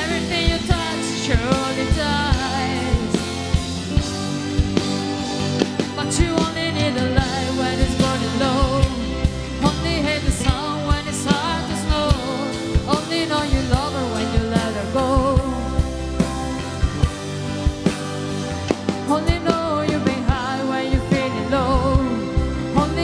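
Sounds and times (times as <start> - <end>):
drum kit beat: 0.0 - 23.0
electric guitar: 0.0 - 23.0
keyboard: 0.0 - 23.0.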